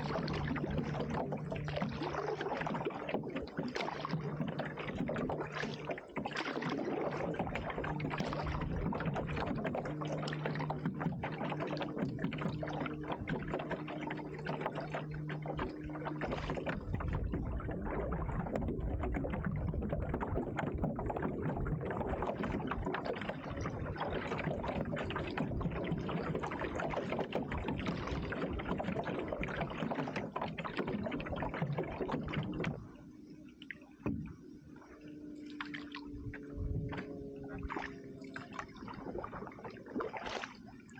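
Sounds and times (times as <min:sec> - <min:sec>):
steady low hum: 0:00.0 - 0:40.9
water splashing around canoe: 0:00.0 - 0:40.9.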